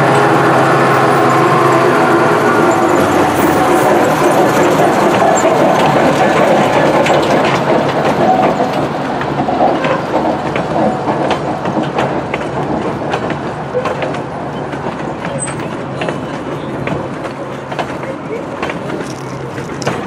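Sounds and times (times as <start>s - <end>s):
train wheels clicking over rail joints: 2.5s - 20.0s.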